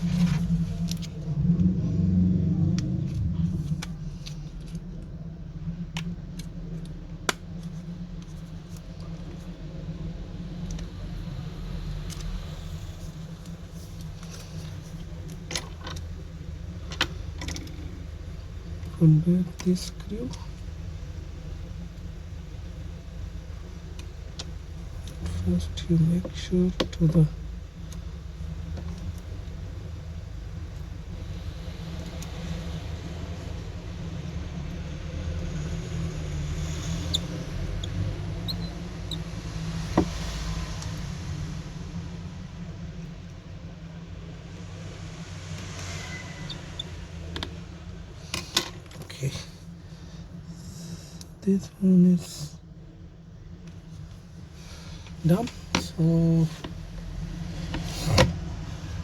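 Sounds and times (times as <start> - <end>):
low background hum: 0.0 - 59.0
low background rumble: 0.0 - 59.0.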